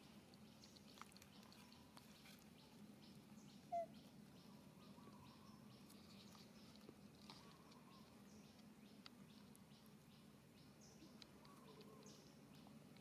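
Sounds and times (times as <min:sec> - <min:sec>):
faint high chirps and ticks: 0:00.0 - 0:13.0.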